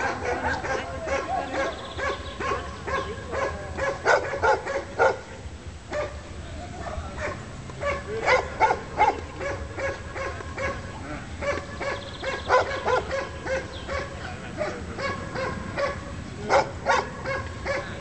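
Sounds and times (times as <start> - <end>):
dog barking rapidly: 0.0 - 5.3, 5.9 - 6.2, 7.2 - 18.0.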